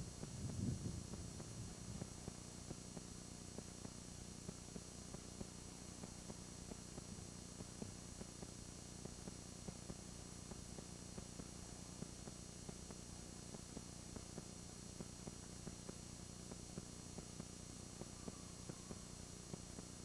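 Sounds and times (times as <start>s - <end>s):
faint steady hum and hiss: 0.0s - 20.0s.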